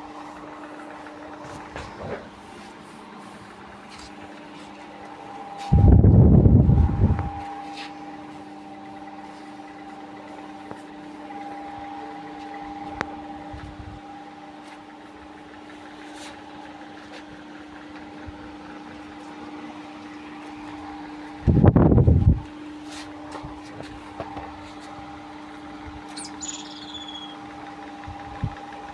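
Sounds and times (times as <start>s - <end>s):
small motor humming: 0.0s - 28.9s.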